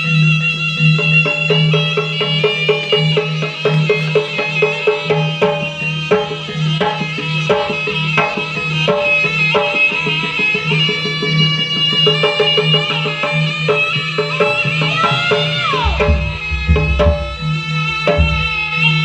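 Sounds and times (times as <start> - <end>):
reedy wind instrument melody: 0.0 - 19.0
hand drum strokes: 1.0 - 18.8.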